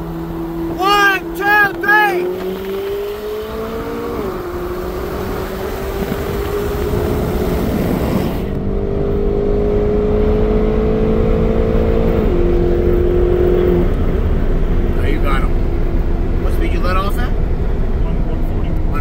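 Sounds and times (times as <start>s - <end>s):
engine at full throttle: 0.0s - 19.0s
road rumble: 0.0s - 19.0s.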